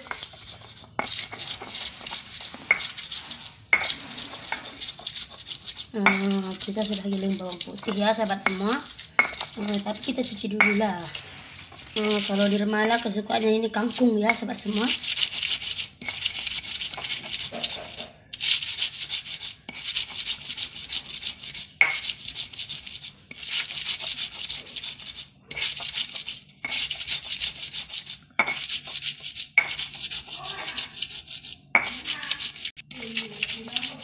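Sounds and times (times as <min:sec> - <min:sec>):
stone pestle grinding wet paste: 0:00.0 - 0:34.0.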